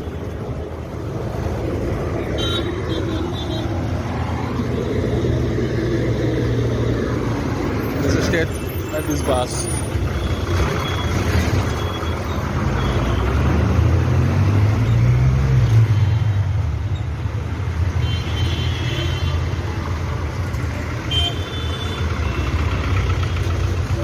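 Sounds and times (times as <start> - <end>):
heavy engines rumbling: 0.0 - 17.6, 19.4 - 24.0.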